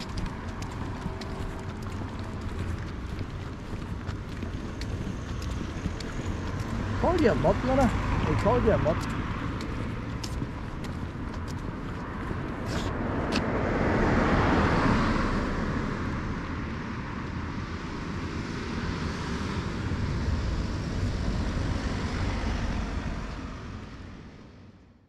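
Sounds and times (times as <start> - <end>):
car passing: 0.0 - 24.8
low traffic rumble: 0.0 - 25.0.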